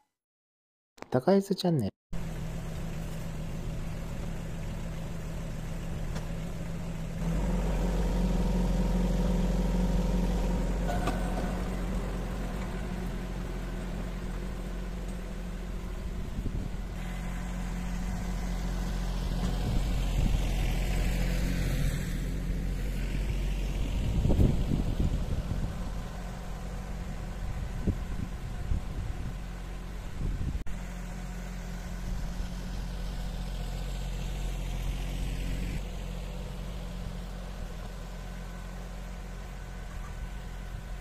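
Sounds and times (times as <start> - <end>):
tractor engine running: 2.2 - 41.0.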